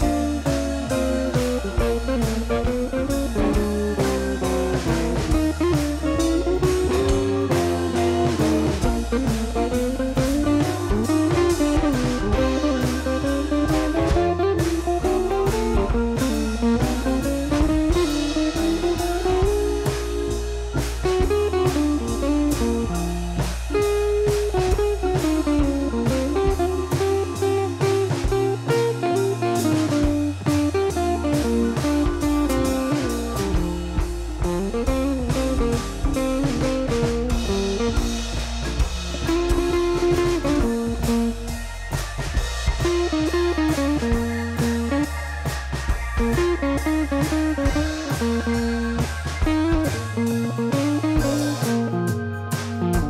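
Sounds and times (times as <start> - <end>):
blues guitar with bass and drums: 0.0 - 53.0.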